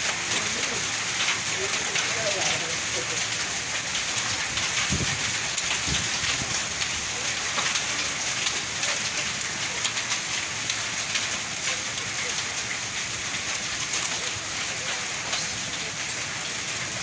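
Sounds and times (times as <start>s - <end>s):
heavy rain and hail on pavement: 0.0s - 17.0s.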